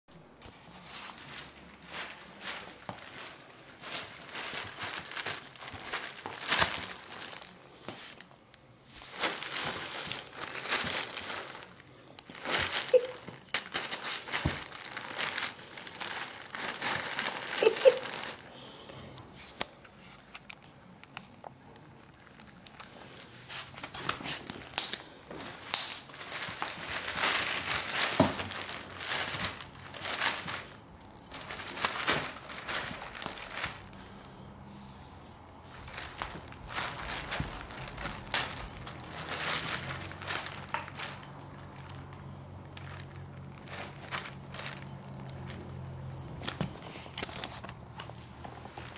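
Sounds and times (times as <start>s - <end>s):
plastic bag crinkling: 0.6s - 8.3s, 8.9s - 18.5s, 21.9s - 34.2s, 35.2s - 47.6s.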